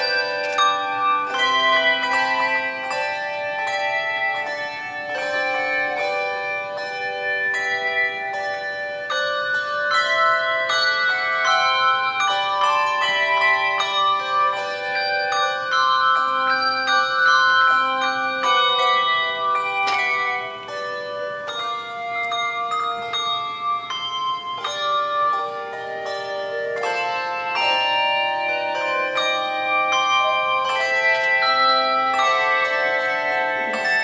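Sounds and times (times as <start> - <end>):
handbell choir playing: 0.0 - 34.0.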